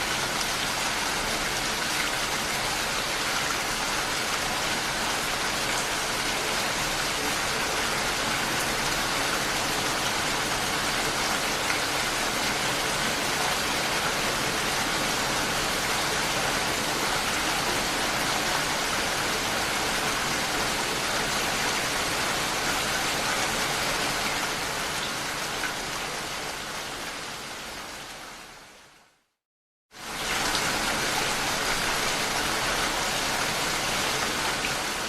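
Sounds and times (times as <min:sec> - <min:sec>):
heavy rain falling: 0:00.0 - 0:27.7, 0:30.0 - 0:35.0.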